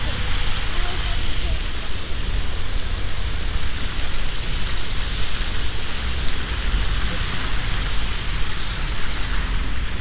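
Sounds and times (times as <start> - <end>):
wet snow hissing on umbrella: 0.0 - 10.0
wind rumble on microphone: 0.0 - 10.0.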